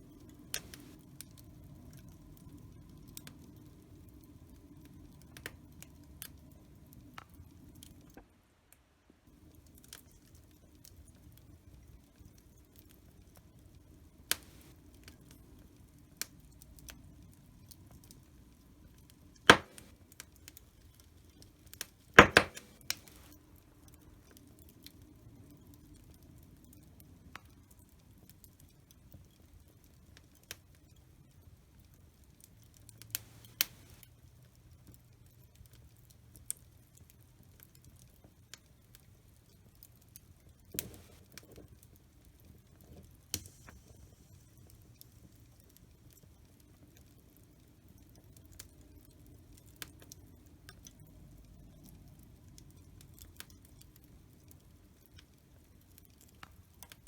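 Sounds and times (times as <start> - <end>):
fireplace fire crackling and popping: 0.0 - 57.0.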